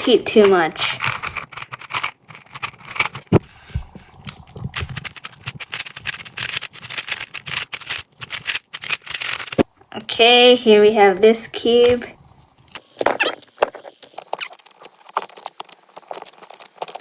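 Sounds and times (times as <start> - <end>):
puzzle cube plastic clicking: 0.0 - 9.7, 12.7 - 17.0.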